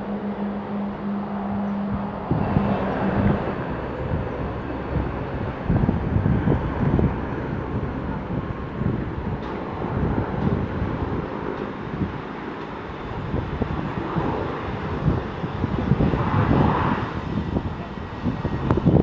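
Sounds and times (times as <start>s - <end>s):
jet engine rush: 0.0s - 19.0s
wind buffeting microphone: 0.0s - 19.0s.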